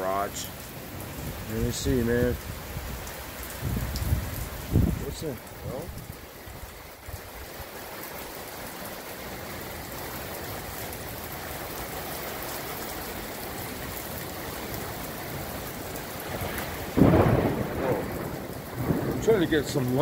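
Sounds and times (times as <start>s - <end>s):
heavy rain on street and cars: 0.0s - 20.0s.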